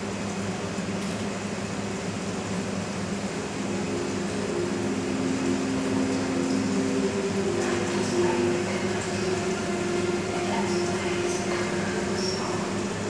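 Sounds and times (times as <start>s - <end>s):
ambient drone over loudspeakers: 0.0s - 13.0s.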